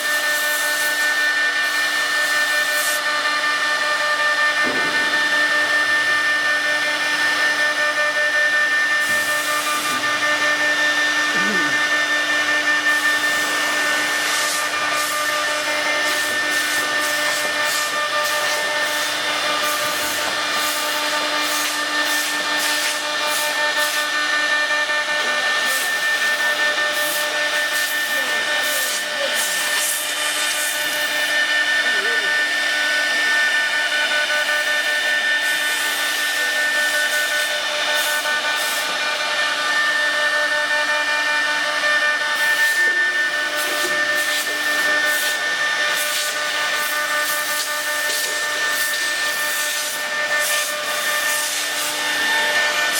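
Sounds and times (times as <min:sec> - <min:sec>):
router spindle whining: 0:00.0 - 0:52.9.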